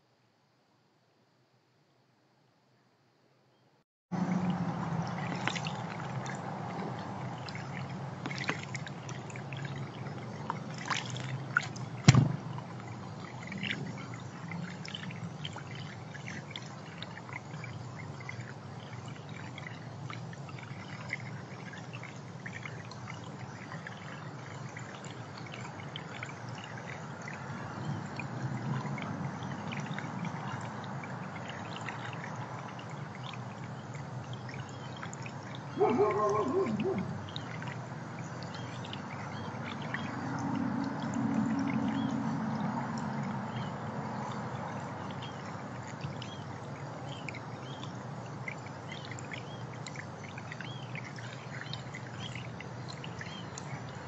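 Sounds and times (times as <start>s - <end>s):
water trickling and pouring: 4.2s - 54.0s.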